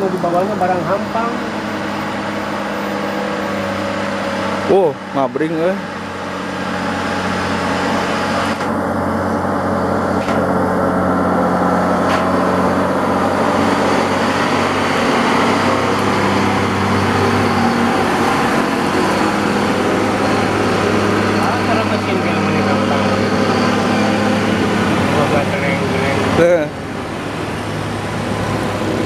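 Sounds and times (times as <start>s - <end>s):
truck diesel engines droning: 0.0s - 29.0s.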